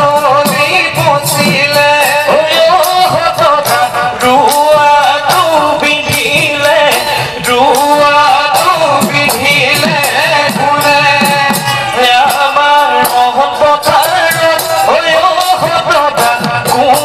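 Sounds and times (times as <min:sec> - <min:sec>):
drums beating quick rhythm: 0:00.0 - 0:17.0.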